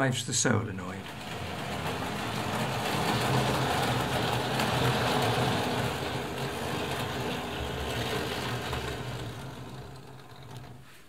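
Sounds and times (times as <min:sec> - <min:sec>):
model train motor hum and wheel rumble: 0:00.7 - 0:11.0.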